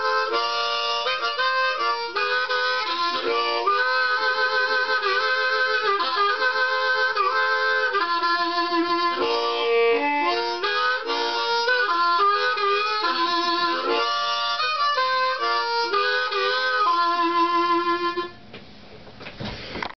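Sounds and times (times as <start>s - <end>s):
harmonica playing chords: 0.0s - 18.4s.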